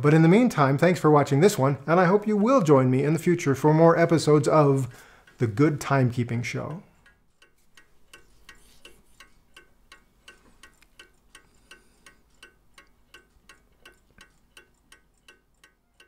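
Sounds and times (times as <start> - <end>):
mantel clock ticking: 0.3 - 16.0.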